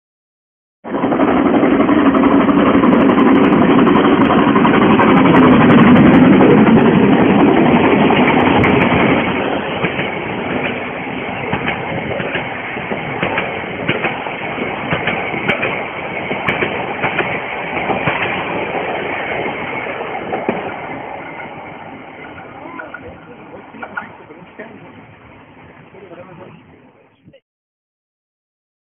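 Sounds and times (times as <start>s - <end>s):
steam train running: 0.9s - 27.3s
rail clatter and clicks: 1.0s - 26.7s.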